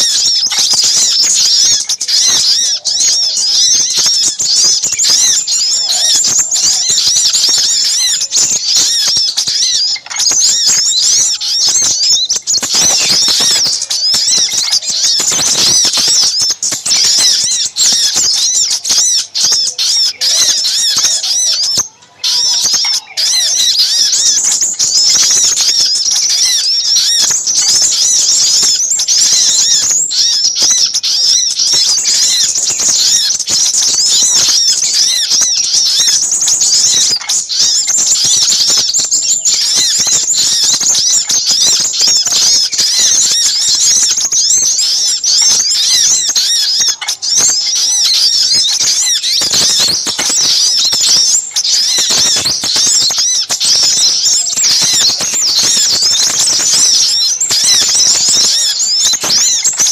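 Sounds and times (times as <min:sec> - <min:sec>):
small birds chirping chorus: 0:00.0 - 0:59.9.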